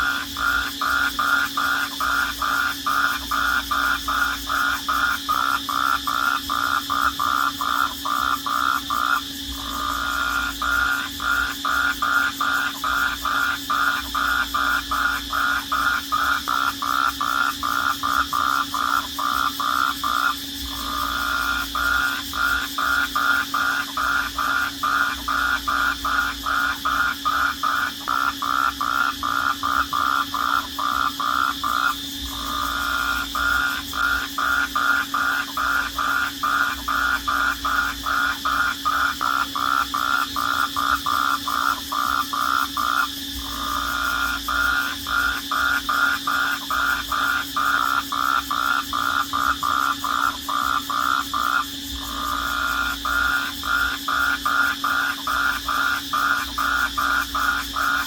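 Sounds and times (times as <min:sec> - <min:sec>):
pulsing insect or frog calls: 0:00.0 - 0:58.0.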